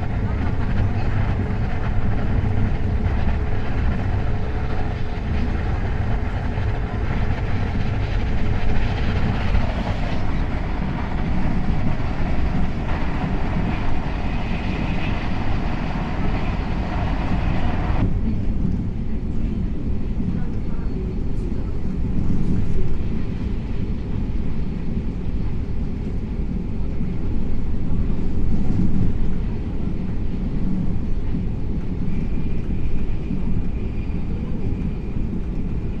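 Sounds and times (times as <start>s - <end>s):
train low rumble: 0.0s - 36.0s
wheel and rail noise: 0.0s - 36.0s.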